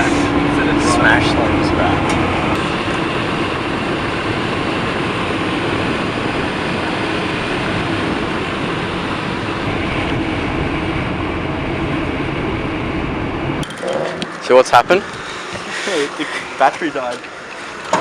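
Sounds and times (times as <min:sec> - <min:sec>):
car engine and road noise drone: 0:00.0 - 0:18.0.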